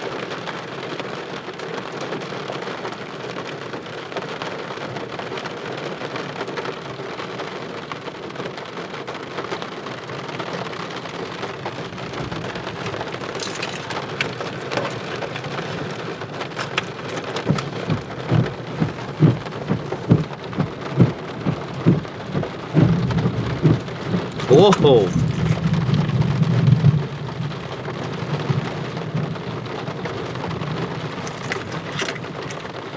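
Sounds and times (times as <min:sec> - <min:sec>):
heavy rain falling: 0:00.0 - 0:31.3.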